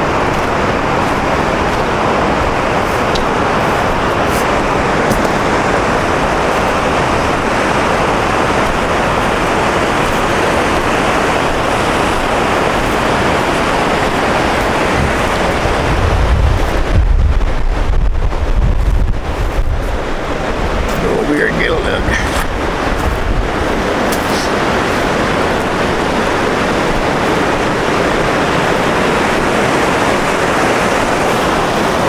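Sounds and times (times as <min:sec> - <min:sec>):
water rushing over rocks: 0:00.0 - 0:32.0
wind buffeting microphone: 0:00.0 - 0:32.0.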